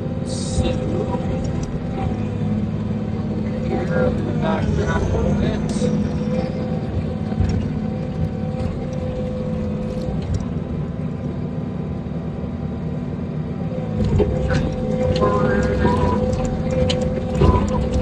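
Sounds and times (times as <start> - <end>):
diesel engine low drone: 0.0 - 18.0
higher machine tone: 0.3 - 11.3, 13.5 - 18.0.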